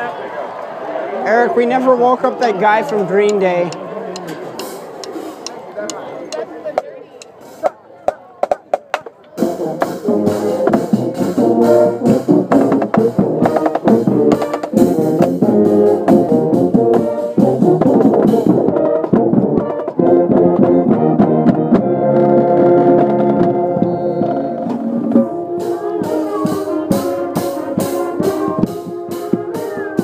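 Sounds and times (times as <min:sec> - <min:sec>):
marching band brass chords: 0:01.5 - 0:30.0.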